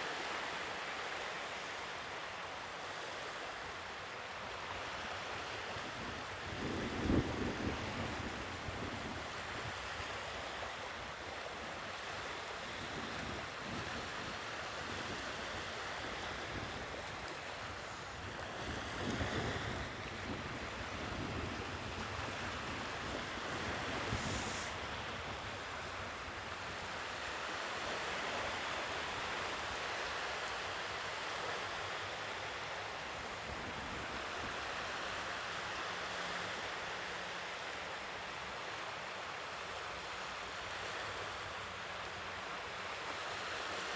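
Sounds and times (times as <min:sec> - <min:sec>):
sea waves washing onto shore: 0:00.0 - 0:43.9.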